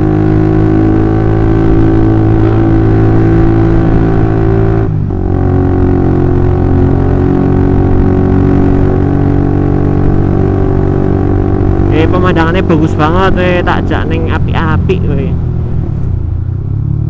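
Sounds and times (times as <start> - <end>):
motorcycle exhaust drone: 0.0 - 17.0.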